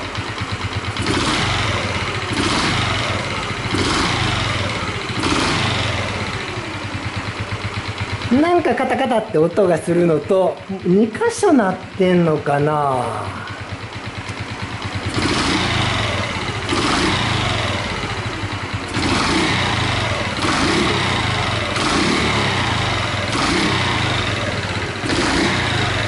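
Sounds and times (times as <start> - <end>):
engine clattering: 0.0 - 26.0
motorcycle engine running: 0.0 - 26.0.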